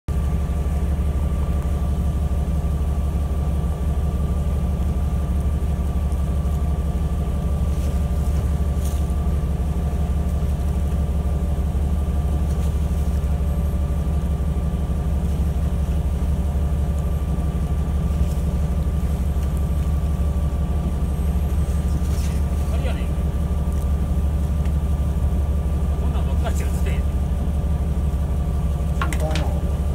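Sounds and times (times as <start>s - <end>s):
boat engine droning: 0.1s - 29.9s
thin steady whine: 0.1s - 29.9s.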